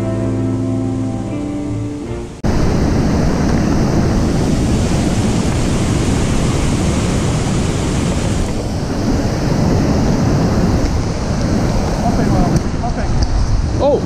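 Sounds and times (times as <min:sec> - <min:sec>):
rush of whitewater rapids: 0:02.4 - 0:14.0.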